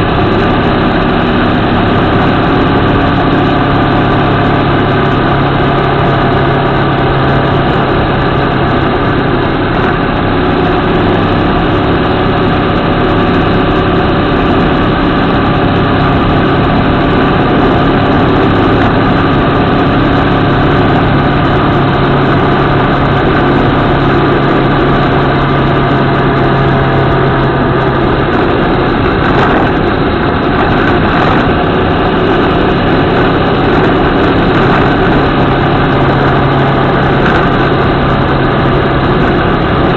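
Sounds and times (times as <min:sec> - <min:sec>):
motorcycle engine cruising: 0:00.0 - 0:39.9
wind and road rush: 0:00.0 - 0:39.9.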